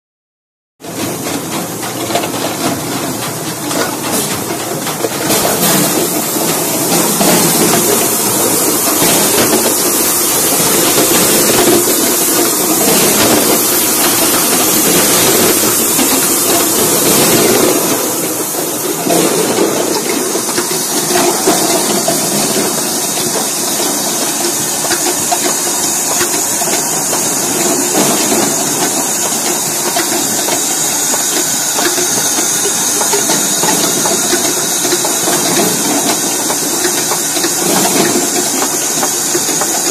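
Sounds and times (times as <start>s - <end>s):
machine hiss: 5.2s - 39.9s.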